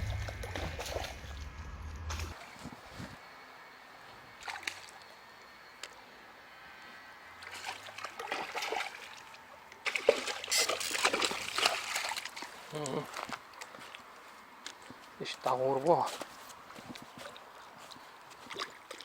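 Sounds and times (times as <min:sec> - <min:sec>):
water splashing and sloshing: 0:00.0 - 0:03.0, 0:04.4 - 0:05.2, 0:07.4 - 0:19.0.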